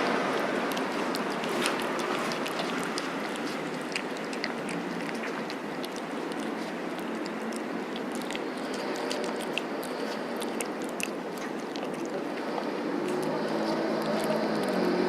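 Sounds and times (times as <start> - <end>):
cat chewing food: 0.0 - 15.0.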